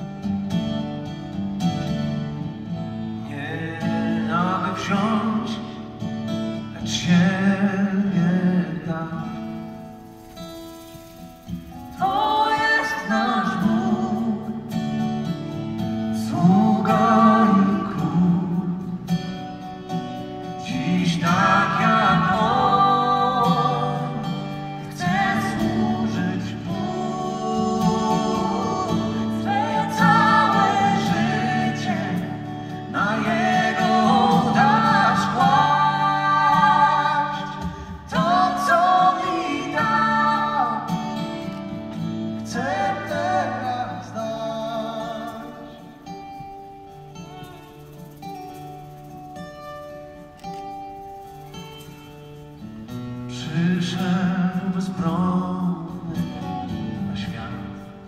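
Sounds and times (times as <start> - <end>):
live concert singing with band: 0.0 - 58.0.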